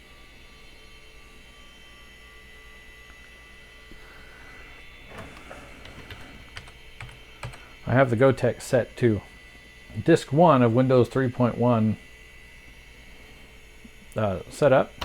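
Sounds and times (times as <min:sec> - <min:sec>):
computer electrical hum: 0:00.0 - 0:15.0.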